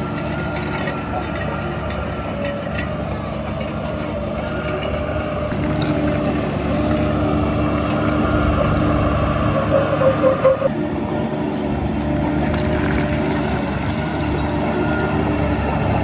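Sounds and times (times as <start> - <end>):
heavy machine diesel engine: 0.0 - 16.0.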